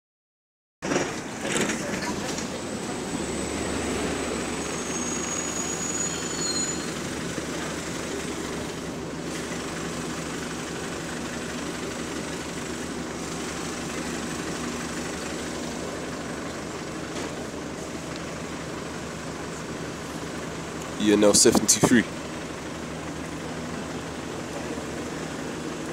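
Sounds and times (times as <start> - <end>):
bus diesel engine idling: 0.8 - 25.9.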